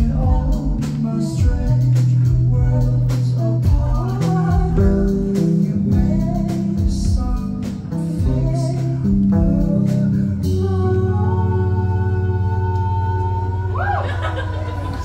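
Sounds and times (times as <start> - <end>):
electric bass: 0.0 - 15.0
people singing: 0.0 - 15.0.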